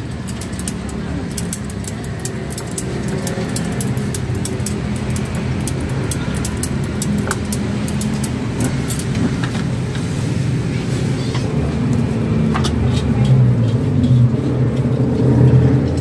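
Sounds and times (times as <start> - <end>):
low rumble of traffic or engine: 0.0 - 16.0.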